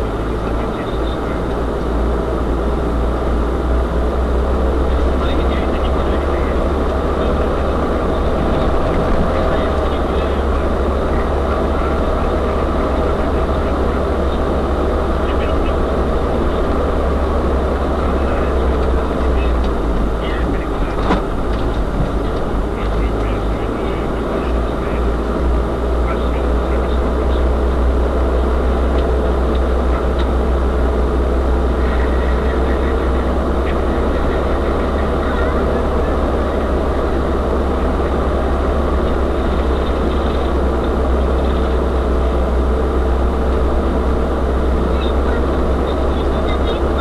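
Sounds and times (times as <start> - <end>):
road noise: 0.0 - 47.0
van engine drone: 0.0 - 47.0.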